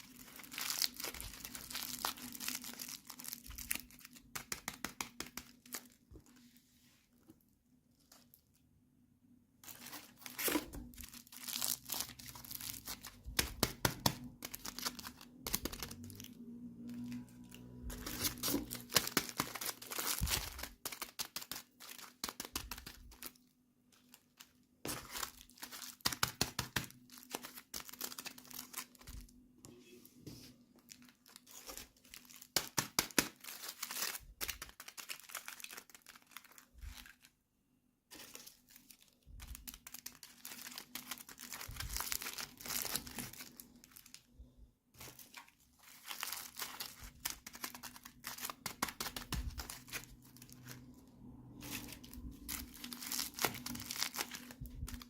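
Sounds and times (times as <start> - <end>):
plastic wrapping crinkling and tearing: 0.0 - 6.5, 7.9 - 8.6, 9.6 - 29.4, 30.8 - 37.4, 38.1 - 55.0.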